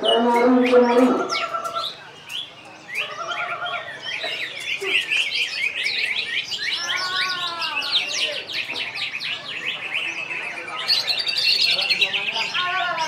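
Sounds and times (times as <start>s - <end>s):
bird whistling and twittering: 0.0s - 12.7s.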